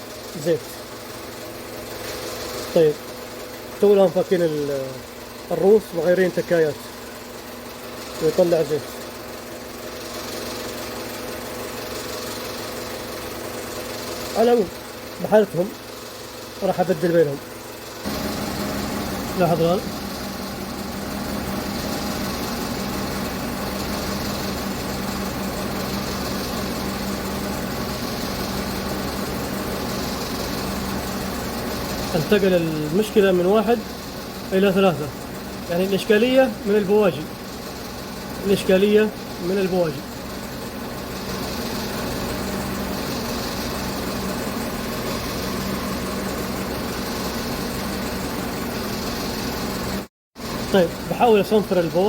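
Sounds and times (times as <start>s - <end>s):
engine idling with misfire: 0.0s - 52.0s.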